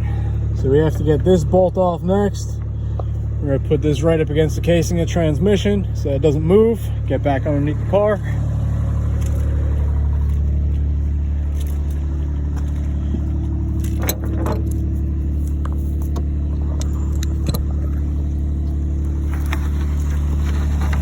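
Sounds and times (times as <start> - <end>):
low engine-like drone: 0.0 - 21.0.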